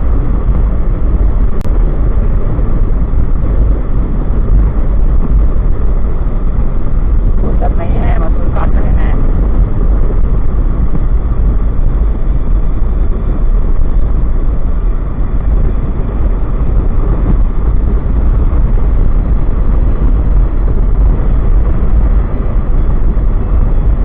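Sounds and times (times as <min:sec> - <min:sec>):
motorcycle running: 0:00.0 - 0:24.0
road noise: 0:00.0 - 0:24.0
wind buffeting microphone: 0:00.0 - 0:24.0.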